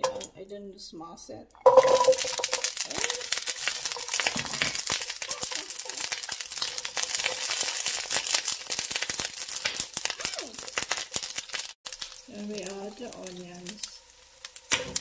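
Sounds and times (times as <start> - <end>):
garlic sizzling in hot oil: 1.6 - 15.0.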